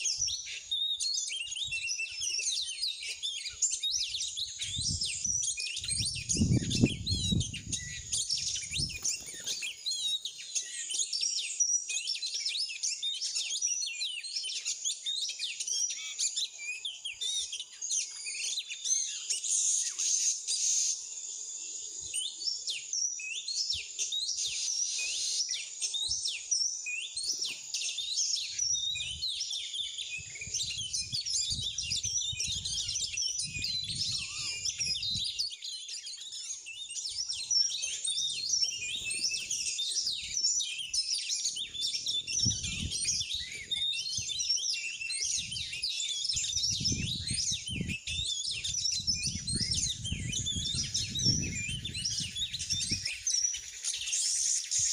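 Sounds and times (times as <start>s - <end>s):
songbirds chirping and singing: 0.0s - 54.9s.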